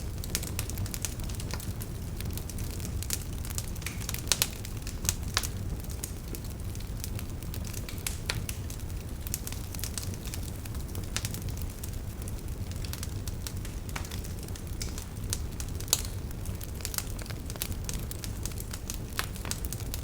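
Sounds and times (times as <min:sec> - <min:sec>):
burning wood popping and crackling: 0:00.0 - 0:20.0
low rumble of flames: 0:00.0 - 0:20.0.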